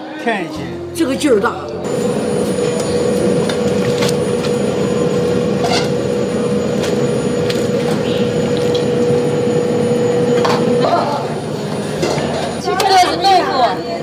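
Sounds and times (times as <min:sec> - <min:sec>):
constant hum: 0:00.5 - 0:14.0.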